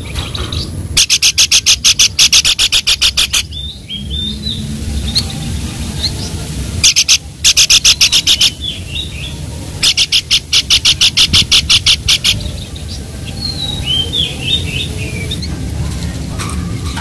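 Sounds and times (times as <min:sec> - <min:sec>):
songbird calling sharp notes: 0:00.0 - 0:15.5.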